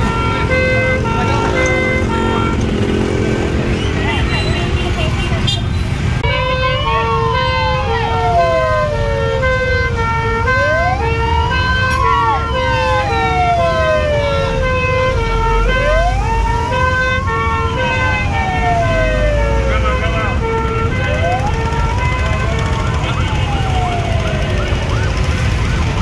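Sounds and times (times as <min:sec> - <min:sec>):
wailing siren: 0:00.0 - 0:04.2, 0:06.2 - 0:26.0
two-tone siren: 0:00.0 - 0:04.3, 0:06.2 - 0:26.0.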